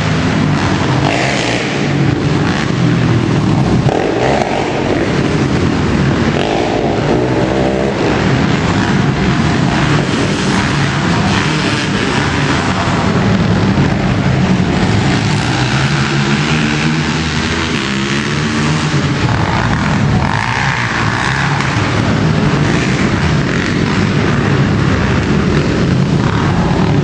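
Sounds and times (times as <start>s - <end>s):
quad bike engines revving: 0.0s - 27.0s.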